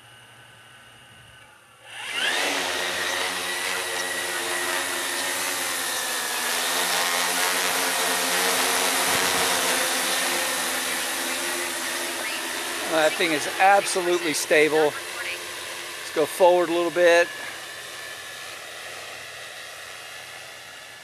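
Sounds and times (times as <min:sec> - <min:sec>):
propeller drone: 0:00.0 - 0:21.0
drone motors whining: 0:01.8 - 0:21.0.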